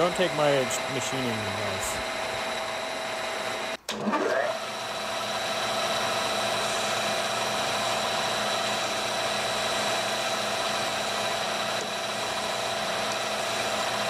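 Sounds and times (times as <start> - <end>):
lathe motor whine: 0.0 - 14.0.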